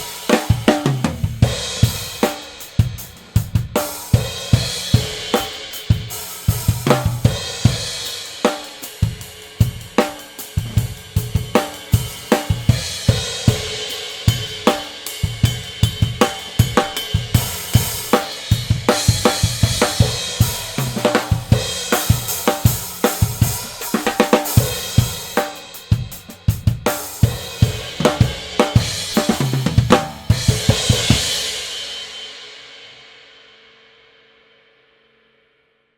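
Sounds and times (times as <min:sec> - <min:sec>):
snare drum: 0:00.0 - 0:13.7, 0:14.3 - 0:31.7.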